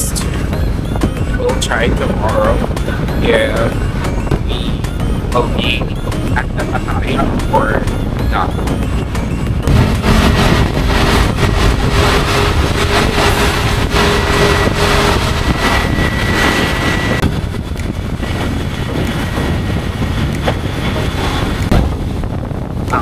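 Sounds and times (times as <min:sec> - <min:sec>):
faint steady whine: 0:00.0 - 0:23.0
motorbike engine and tyre noise: 0:00.0 - 0:23.0
wind rushing over microphone: 0:00.0 - 0:23.0.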